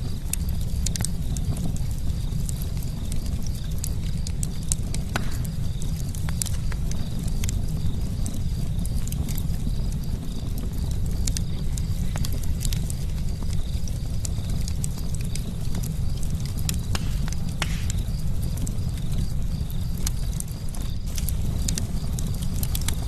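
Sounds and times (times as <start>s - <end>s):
burning wood popping: 0.0s - 23.0s
low rumble of flames: 0.0s - 23.0s.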